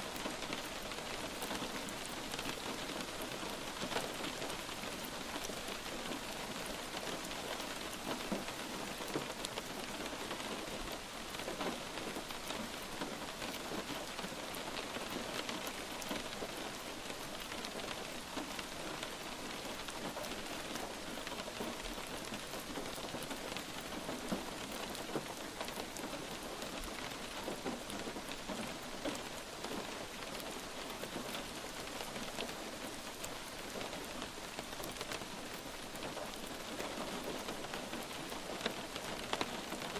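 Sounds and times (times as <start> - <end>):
light rain hissing: 0.0 - 39.9
raindrops ticking: 0.0 - 39.9.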